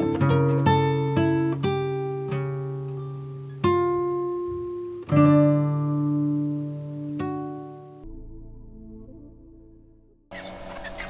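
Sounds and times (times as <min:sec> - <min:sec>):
plucked guitar chords: 0:00.0 - 0:10.2.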